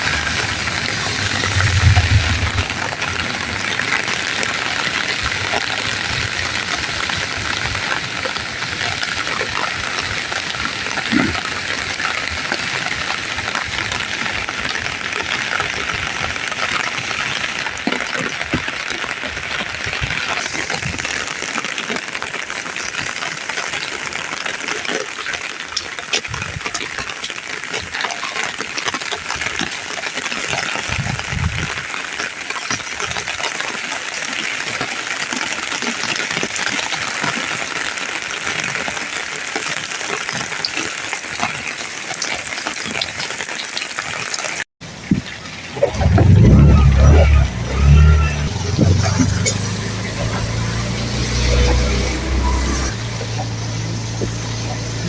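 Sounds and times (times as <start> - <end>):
dripping water: 0.0 - 55.0
heavy rain falling: 0.0 - 55.0.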